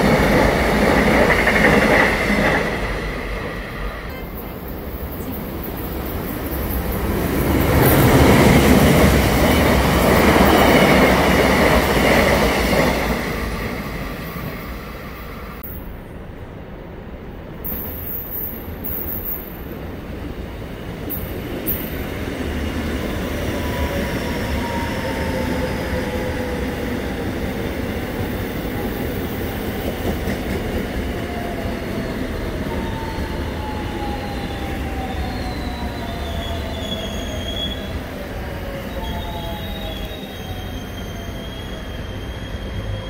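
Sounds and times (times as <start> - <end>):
electric train rumbling: 0.0 - 43.0.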